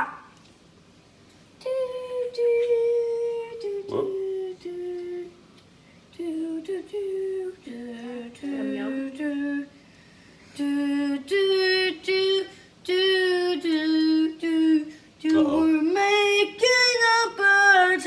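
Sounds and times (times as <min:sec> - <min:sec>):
child singing wordless tune: 0:01.6 - 0:05.4, 0:06.1 - 0:09.7, 0:10.6 - 0:18.0.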